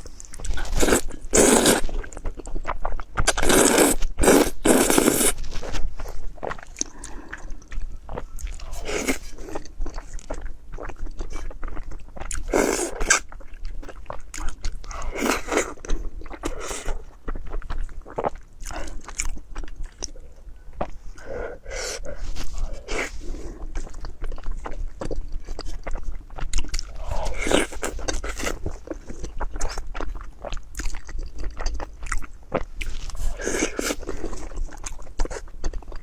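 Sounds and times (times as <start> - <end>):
chewing and biting food: 0.0 - 36.0.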